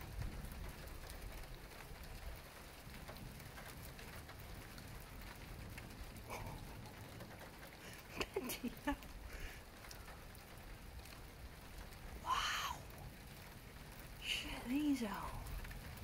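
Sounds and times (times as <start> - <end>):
low thunder rumble: 0.0 - 16.0
steady rain: 0.0 - 16.0.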